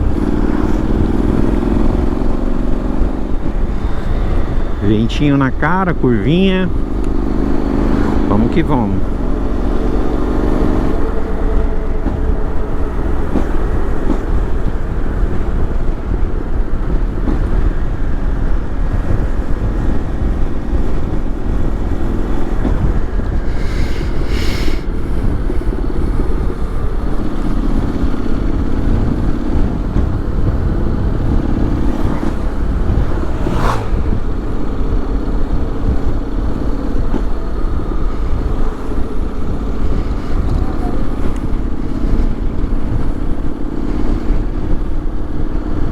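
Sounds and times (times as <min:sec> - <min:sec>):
motorcycle engine running: 0:00.0 - 0:45.9
wind rumble on microphone: 0:00.0 - 0:45.9.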